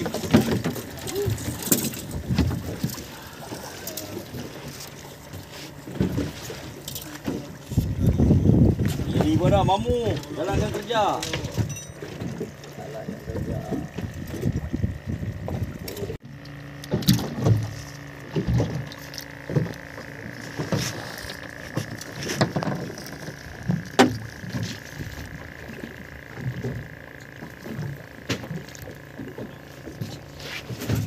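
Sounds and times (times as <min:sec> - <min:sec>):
steady machine whine: 0:00.0 - 0:31.0.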